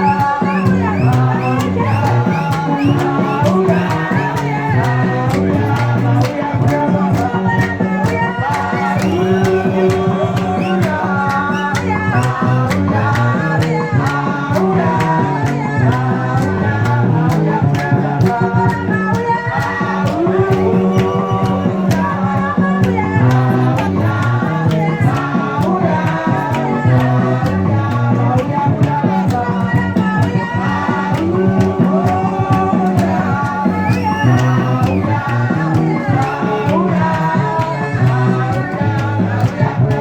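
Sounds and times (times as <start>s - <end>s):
person singing: 0.0s - 39.2s
steady drum beat: 0.0s - 40.0s
stepping bass line: 0.0s - 40.0s.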